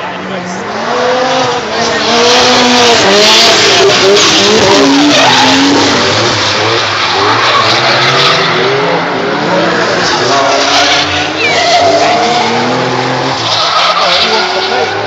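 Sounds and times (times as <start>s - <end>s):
car engines revving: 0.0s - 15.0s
tyres squealing: 2.5s - 15.0s.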